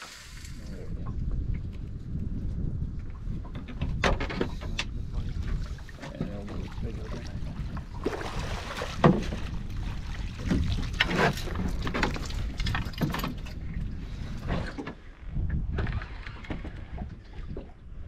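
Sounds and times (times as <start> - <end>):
water lapping against boat hull: 0.0 - 18.0.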